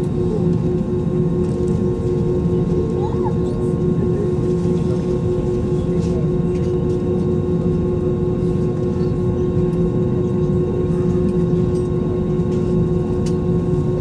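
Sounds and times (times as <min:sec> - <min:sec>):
aircraft cabin drone: 0:00.0 - 0:14.0
engine whine: 0:00.0 - 0:14.0.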